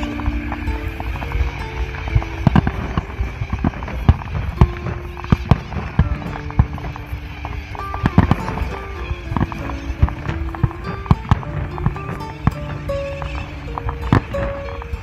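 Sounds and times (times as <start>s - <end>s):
fireworks bangs and crackles: 0.0s - 15.0s
music with held notes: 0.0s - 15.0s.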